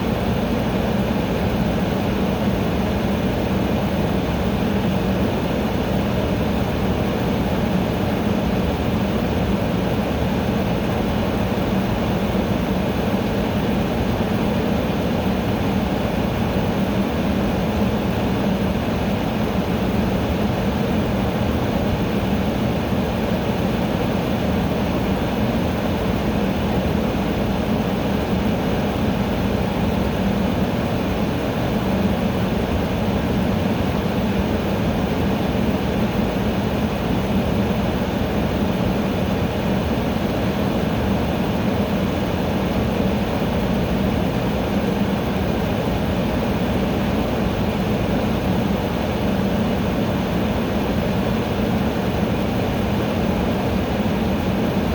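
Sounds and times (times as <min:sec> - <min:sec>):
air conditioner running: 0:00.0 - 0:54.9.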